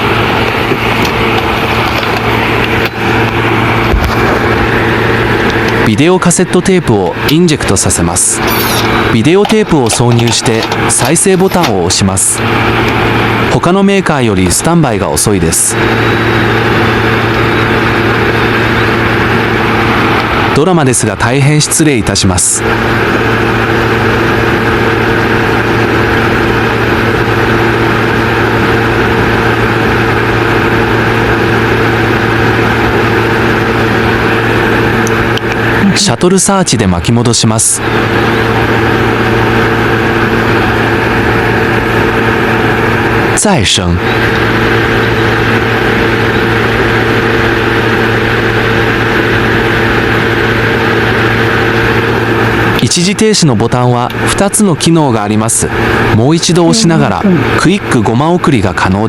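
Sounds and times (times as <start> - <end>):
low hum: 0.0 - 59.0
steady drone: 0.0 - 59.0.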